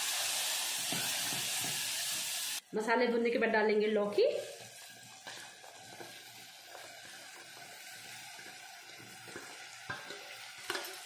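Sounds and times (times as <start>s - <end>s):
food sizzling in ghee: 0.0s - 2.6s, 3.3s - 11.0s.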